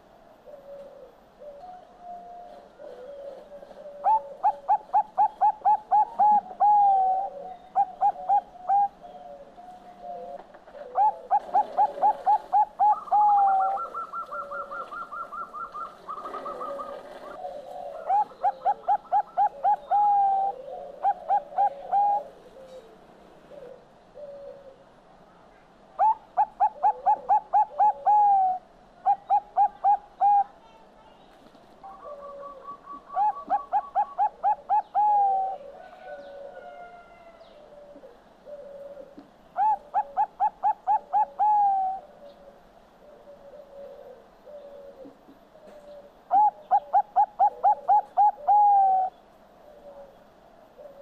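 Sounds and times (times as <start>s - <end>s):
dove staccato cooing: 0.4s - 24.9s, 26.0s - 30.5s, 31.8s - 51.0s.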